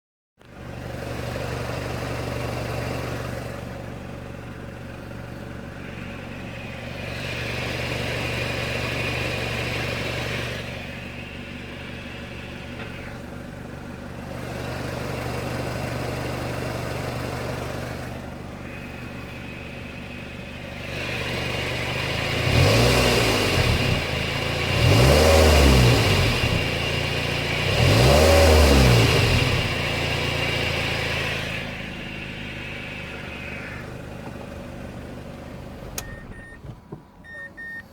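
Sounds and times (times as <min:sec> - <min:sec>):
car engine idling: 0:00.4 - 0:37.9
engine revving: 0:00.6 - 0:37.4.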